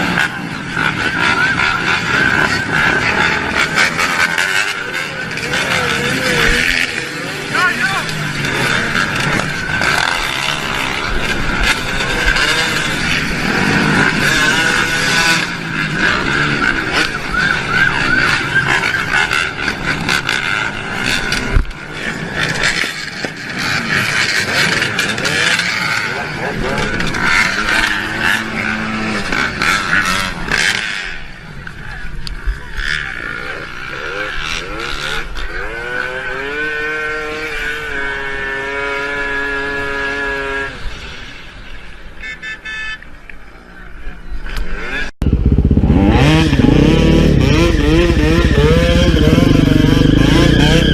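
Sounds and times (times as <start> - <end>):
motorcycle engine revving: 0.0 - 42.8, 44.2 - 50.9
road and wind noise: 0.0 - 50.9.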